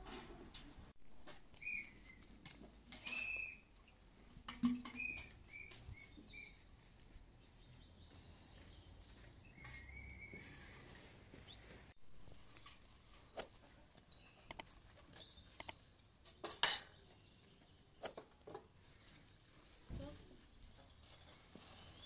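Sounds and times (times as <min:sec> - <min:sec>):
small birds chirping: 0:01.5 - 0:04.1, 0:04.9 - 0:16.5, 0:18.0 - 0:22.0.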